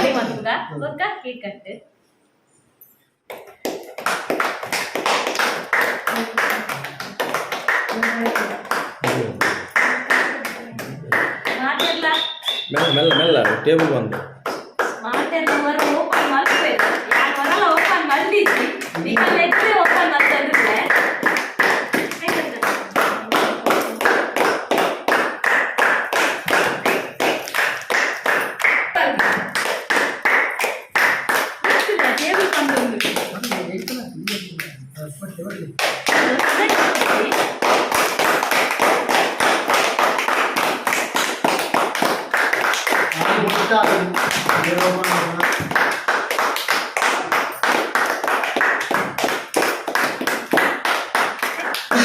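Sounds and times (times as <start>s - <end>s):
people clapping in rhythm: 3.3s - 52.0s.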